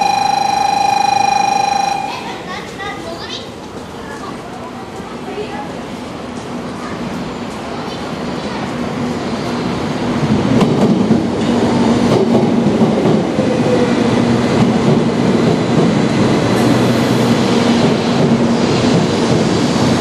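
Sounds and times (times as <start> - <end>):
train rumble passing: 0.0 - 20.0.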